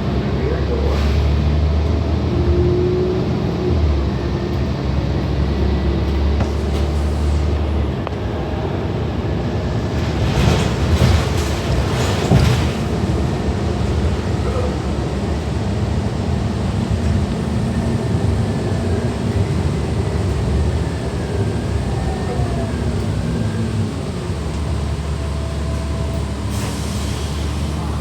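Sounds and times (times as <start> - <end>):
bus engine low hum: 0.0 - 28.0.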